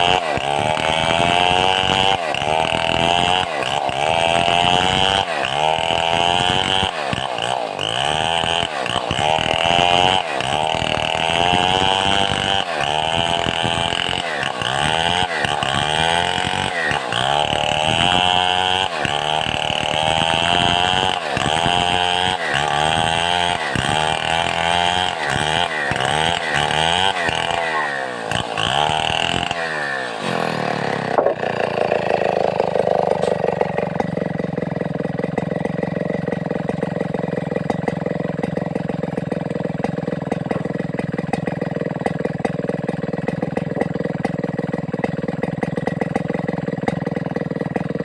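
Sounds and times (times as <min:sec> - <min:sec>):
chainsaw sawing log: 0:00.0 - 0:48.0.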